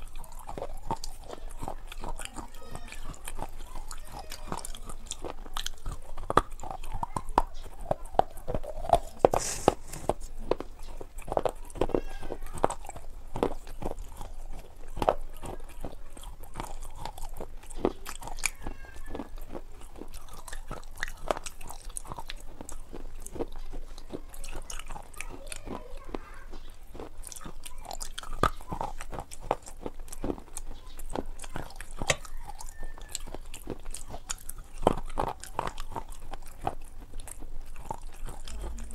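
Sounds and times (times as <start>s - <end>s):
crunching bites of food: 0.0s - 38.9s
person chewing with mouth clicks: 0.0s - 38.9s.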